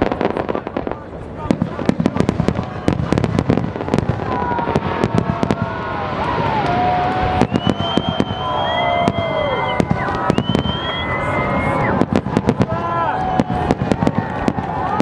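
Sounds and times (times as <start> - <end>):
firework bangs: 0.0 - 15.0
firework crackling: 0.0 - 15.0
firework whistling: 0.0 - 15.0.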